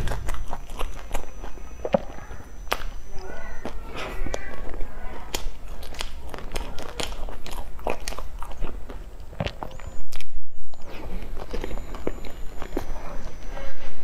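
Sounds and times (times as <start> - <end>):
chewing with wet mouth clicks: 0.0 - 13.5.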